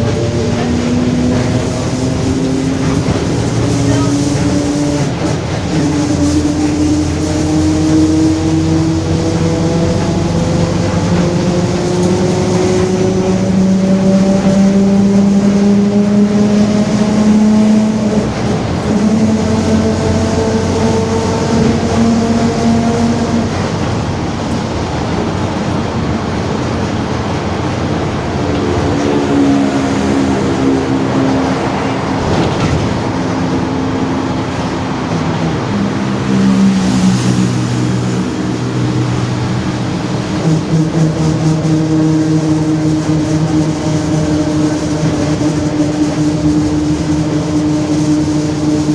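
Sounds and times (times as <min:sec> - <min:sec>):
bus differential whining: 0:00.0 - 0:48.9
engine and road noise: 0:00.0 - 0:48.9.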